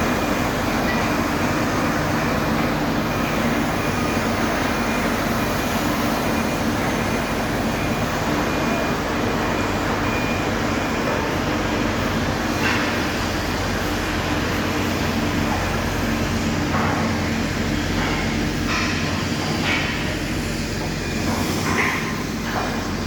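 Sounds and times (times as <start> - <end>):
mechanical drone with low hum: 0.0 - 23.0.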